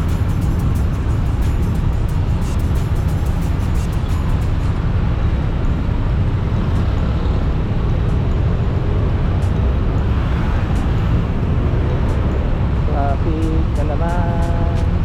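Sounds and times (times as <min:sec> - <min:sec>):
motorcycle riding rumble: 0:00.0 - 0:15.0.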